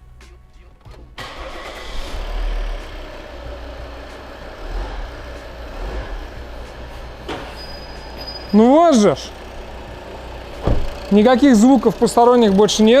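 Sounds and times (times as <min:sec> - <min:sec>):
diesel engine starting and idling: 0:00.6 - 0:13.0.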